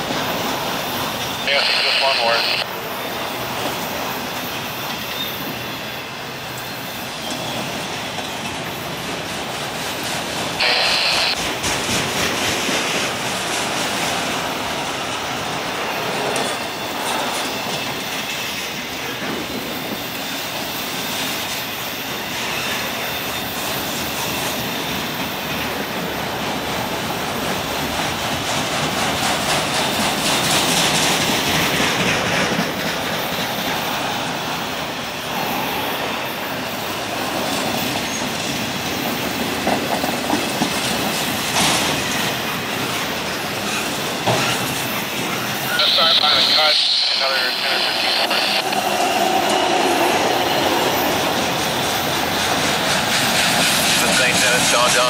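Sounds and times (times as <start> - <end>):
steel wheels rushing on rail: 0.0 - 55.0.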